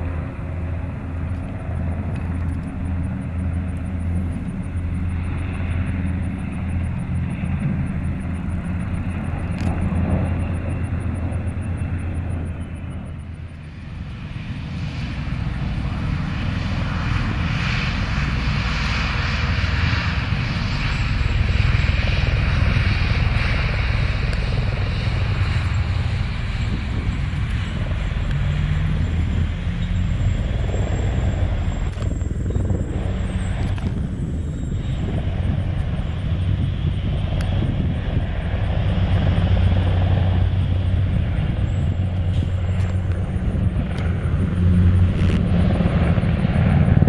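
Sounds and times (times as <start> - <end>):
aircraft engine and rotor drone: 0.0 - 47.0.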